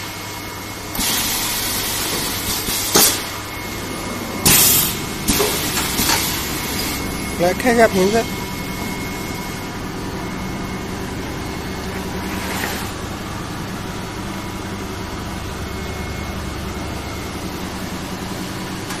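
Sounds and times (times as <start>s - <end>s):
machine mechanical hum: 0.0s - 19.0s.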